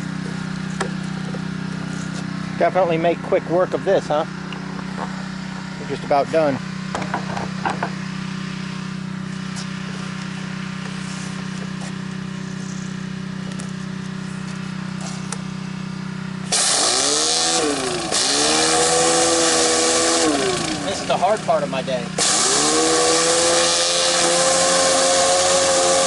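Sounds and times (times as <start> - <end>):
pressure washer engine running: 0.0 - 26.0.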